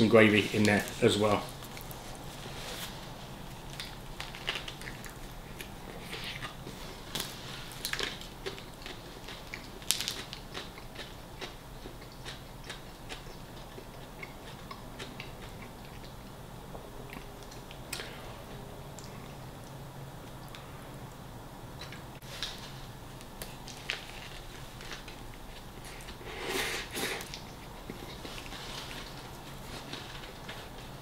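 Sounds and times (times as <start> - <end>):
man chewing food: 1.5 - 21.2, 21.8 - 31.0.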